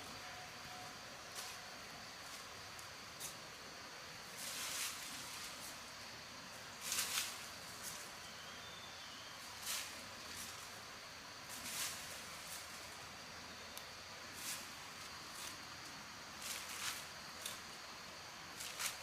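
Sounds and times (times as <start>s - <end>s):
rain hissing in a forest: 0.0s - 19.0s.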